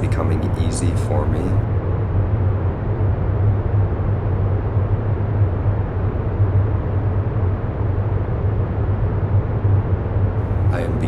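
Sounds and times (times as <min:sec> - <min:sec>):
rumbling background noise with low hum: 0:00.0 - 0:11.0.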